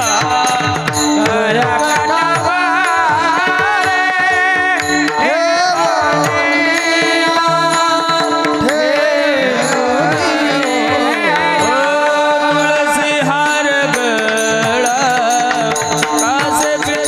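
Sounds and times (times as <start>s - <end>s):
man singing devotional song: 0.0s - 17.0s
rhythmic clicks: 0.0s - 17.0s.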